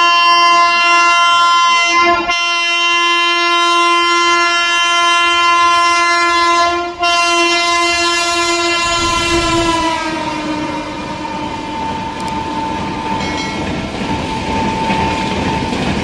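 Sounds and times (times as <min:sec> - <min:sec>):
locomotive horn blast: 0:00.0 - 0:13.2.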